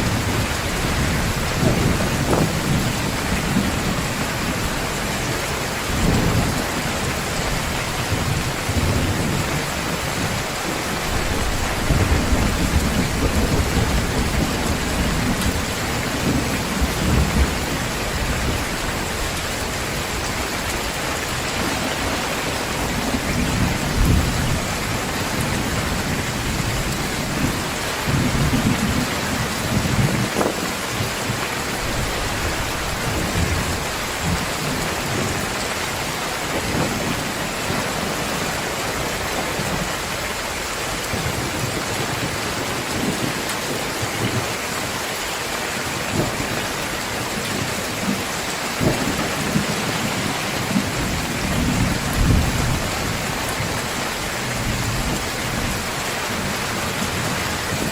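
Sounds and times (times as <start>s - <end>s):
thunder rumbling: 0.0s - 40.0s, 47.5s - 57.9s
heavy rain falling: 0.0s - 57.9s.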